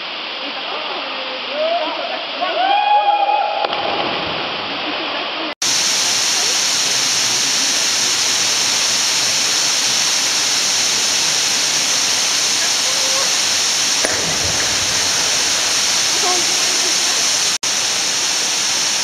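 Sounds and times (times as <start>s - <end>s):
waterfall rushing into pool: 3.6s - 19.0s.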